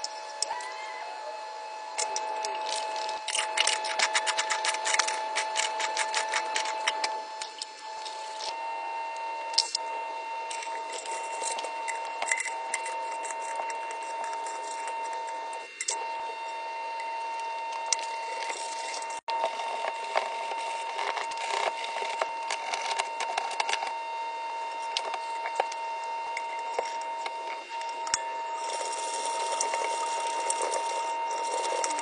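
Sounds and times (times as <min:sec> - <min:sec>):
high hum: 0:00.0 - 0:32.0.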